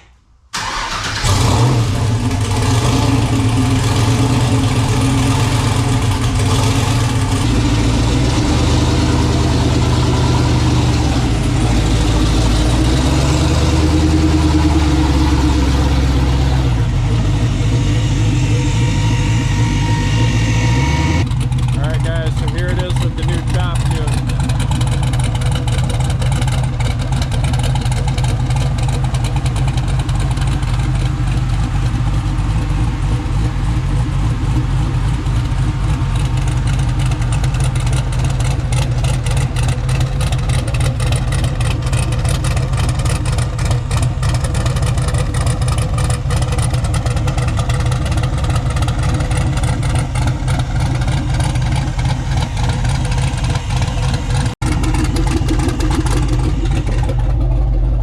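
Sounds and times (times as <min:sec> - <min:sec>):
choppy engine idling: 0:00.6 - 0:58.0.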